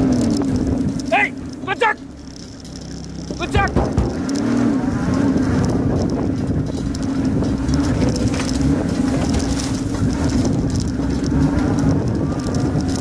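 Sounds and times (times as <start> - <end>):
vehicle engine running hard: 0.0 - 13.0
vehicle rattling and knocking: 0.0 - 13.0.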